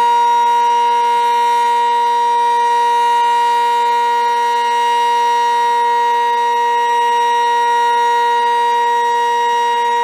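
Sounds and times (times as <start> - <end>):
steady warning siren: 0.0 - 10.0.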